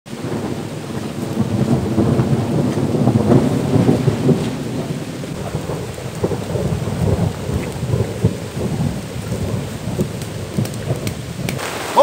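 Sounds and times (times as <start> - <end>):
rain falling: 0.1 - 12.0.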